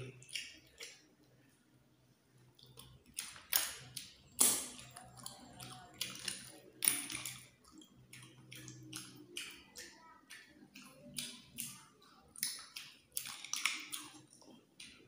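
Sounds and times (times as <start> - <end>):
wet slurps and clicks eating: 0.0 - 1.4, 2.5 - 15.0.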